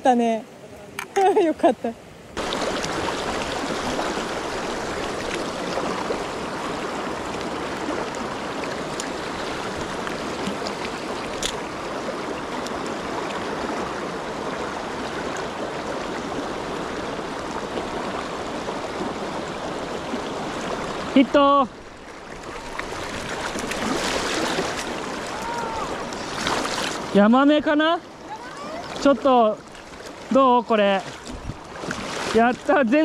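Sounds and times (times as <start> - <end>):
stream rushing over stones: 1.4 - 33.0.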